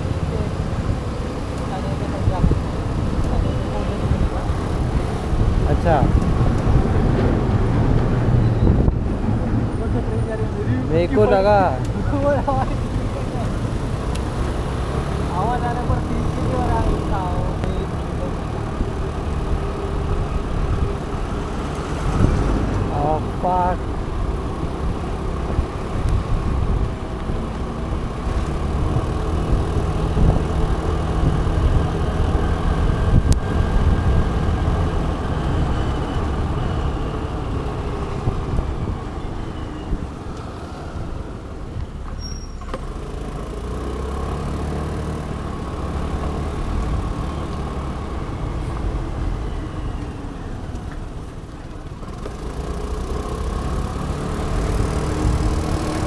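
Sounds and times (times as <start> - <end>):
motor scooter engine running: 0.0 - 8.8, 11.8 - 40.2, 42.8 - 56.0
other vehicles passing: 0.0 - 56.0
road noise: 0.0 - 56.0.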